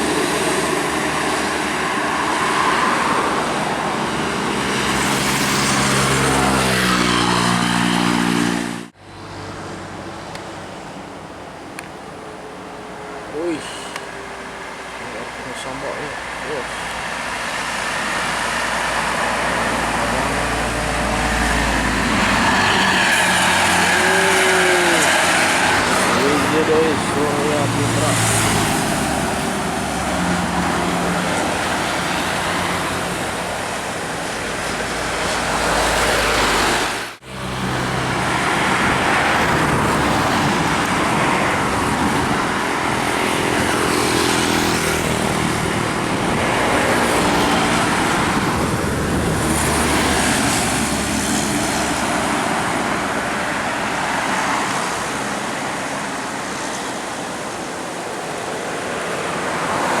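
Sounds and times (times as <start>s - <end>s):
buses driving past: 0.0s - 60.0s.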